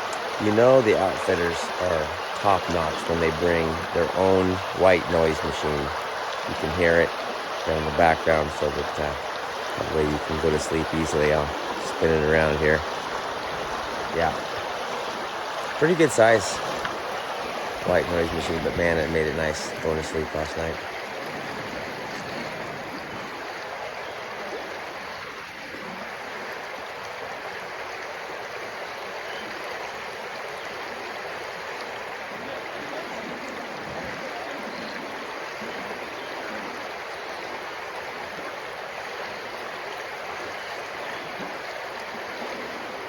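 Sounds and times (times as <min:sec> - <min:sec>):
stream running: 0:00.0 - 0:43.0.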